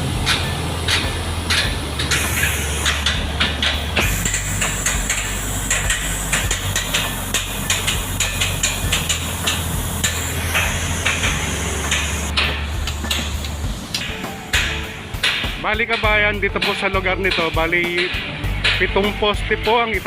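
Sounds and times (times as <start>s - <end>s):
heavy machinery drone: 0.0s - 20.0s
metal hammering: 0.0s - 20.0s.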